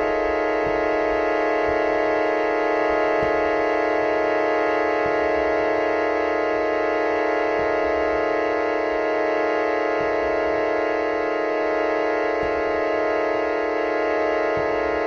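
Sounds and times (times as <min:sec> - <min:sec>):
dense drone of held tones: 0:00.0 - 0:15.0.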